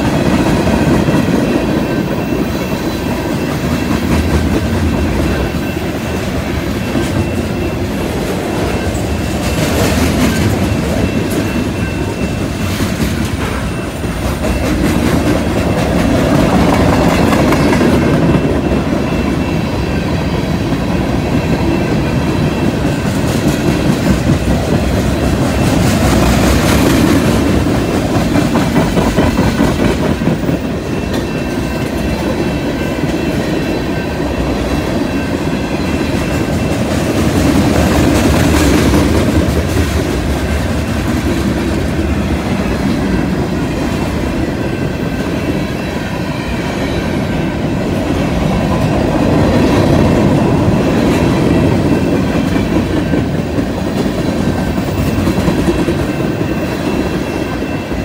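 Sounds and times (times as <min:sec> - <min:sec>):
freight train cars rumbling past: 0:00.0 - 0:58.0
wheels clickety-clack on rails: 0:00.0 - 0:58.0.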